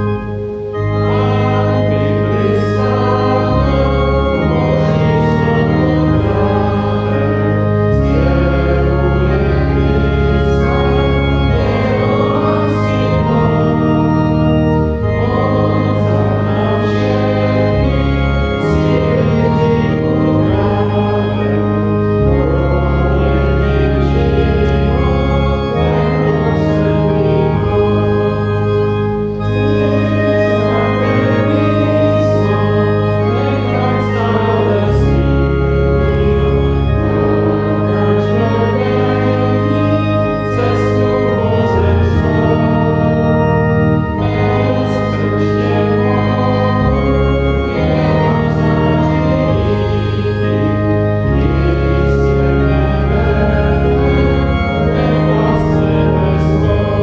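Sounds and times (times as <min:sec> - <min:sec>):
organ playing a slow hymn: 0:00.0 - 0:57.0.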